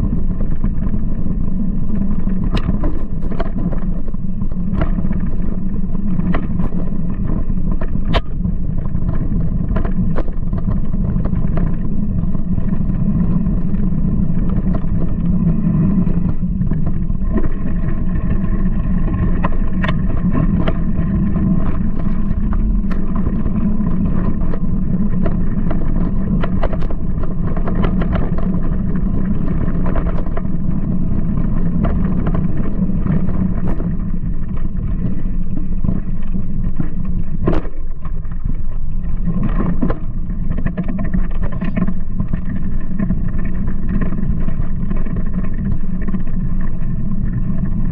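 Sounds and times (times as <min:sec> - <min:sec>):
bike rattling over bumps: 0:00.0 - 0:47.9.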